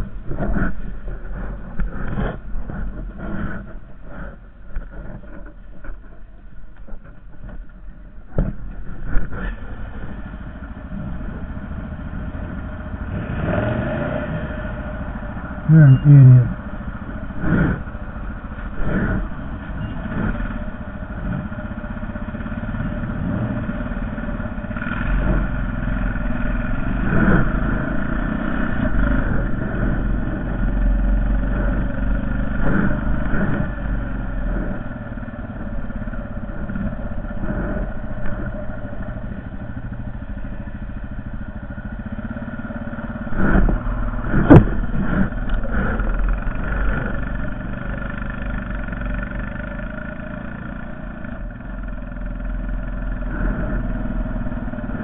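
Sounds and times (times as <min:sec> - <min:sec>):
atv engine rumble: 0:00.0 - 0:55.0.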